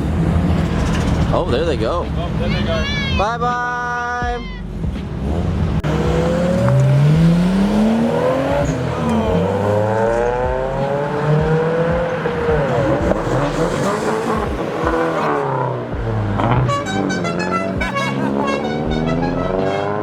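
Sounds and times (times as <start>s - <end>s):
cars accelerating away: 0.0s - 2.5s, 4.8s - 20.0s.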